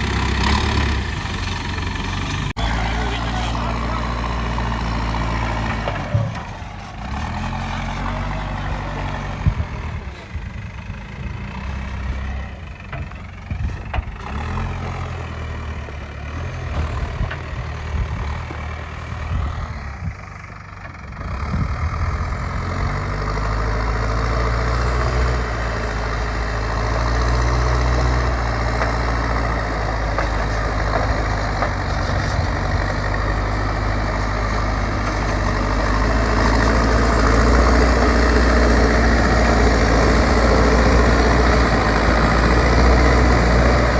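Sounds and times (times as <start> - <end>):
diesel digger engine working: 0.0 - 43.9.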